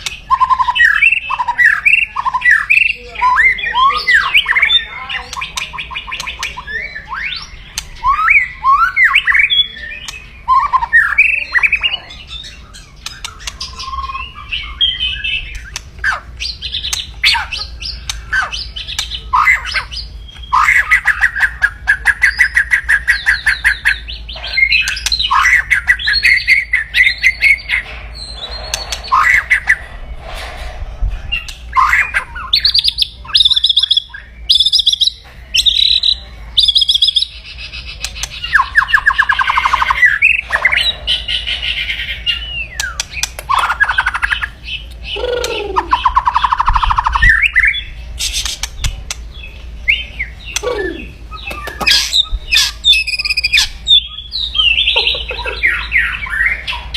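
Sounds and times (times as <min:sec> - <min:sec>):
bird harsh rattling trills: 0:00.0 - 0:56.9.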